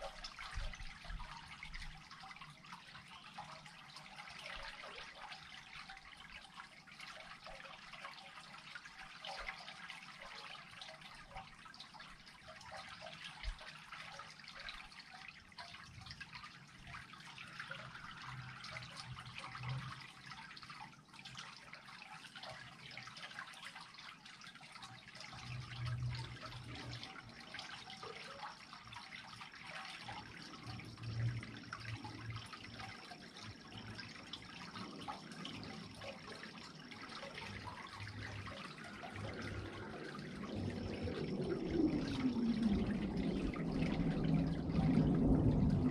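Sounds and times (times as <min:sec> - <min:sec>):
water trickling and dripping: 0:00.0 - 0:45.9.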